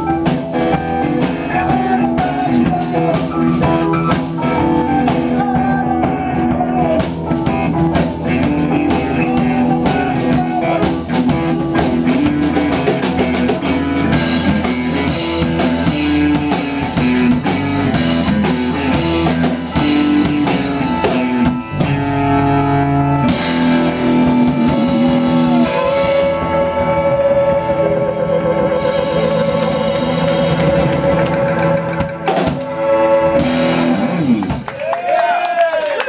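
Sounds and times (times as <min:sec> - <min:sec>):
live rock band playing: 0:00.0 - 0:34.9.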